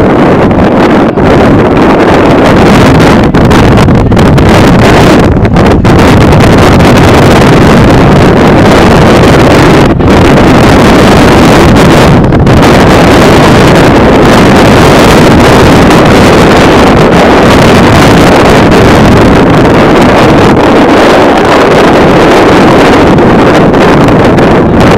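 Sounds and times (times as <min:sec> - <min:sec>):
wind on microphone: 0:00.0 - 0:24.9.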